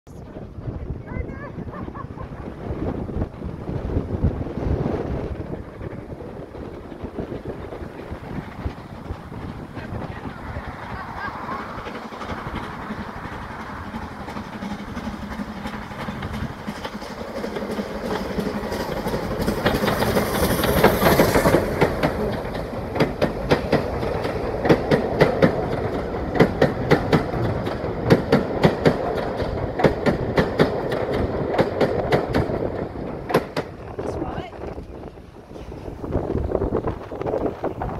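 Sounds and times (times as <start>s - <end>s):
steam train rumble: 0.1s - 37.9s
wheels clacking over rail joints: 2.2s - 37.9s.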